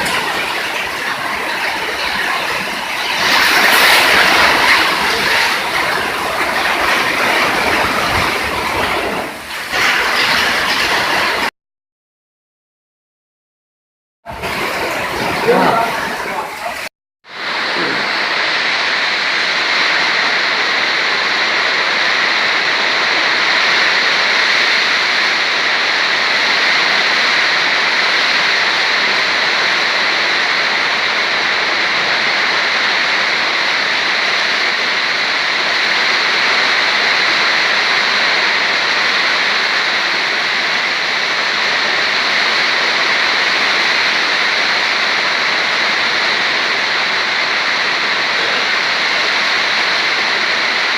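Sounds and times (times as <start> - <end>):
heavy rain pouring: 0.0 - 11.5, 14.3 - 50.9.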